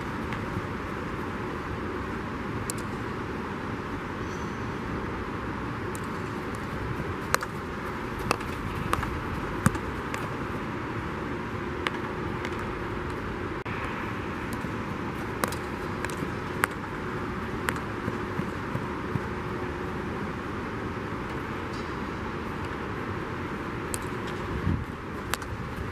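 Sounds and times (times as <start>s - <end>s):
steady background noise: 0.0s - 25.9s.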